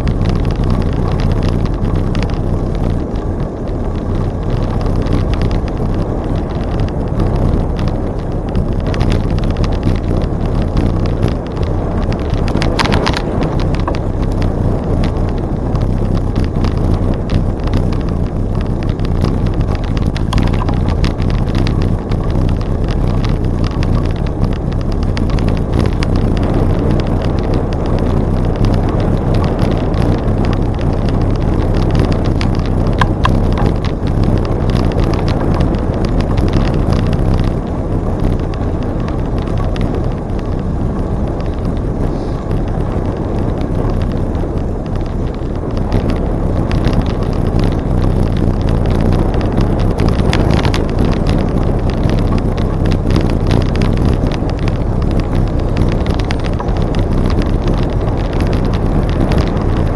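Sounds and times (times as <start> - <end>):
bike clicks and rattles: 0.0 - 59.9
wind rushing over microphone: 0.0 - 59.9.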